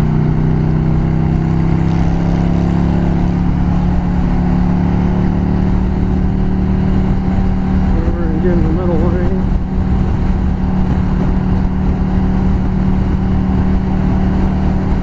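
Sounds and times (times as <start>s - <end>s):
constant rush of noise: 0.0s - 15.0s
motorcycle engine running: 0.0s - 15.0s.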